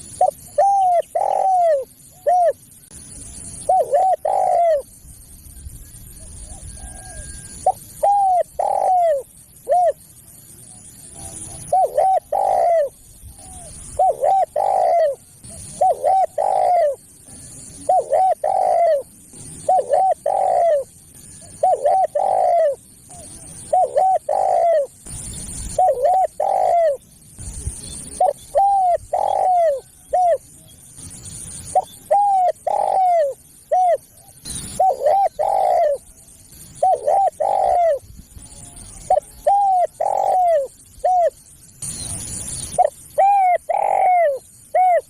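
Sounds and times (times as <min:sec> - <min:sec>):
dove cooing: 0:00.0 - 0:02.6, 0:03.6 - 0:04.9, 0:06.1 - 0:10.1, 0:10.7 - 0:25.0, 0:25.7 - 0:27.0, 0:28.0 - 0:30.7, 0:31.6 - 0:41.4, 0:42.7 - 0:45.0.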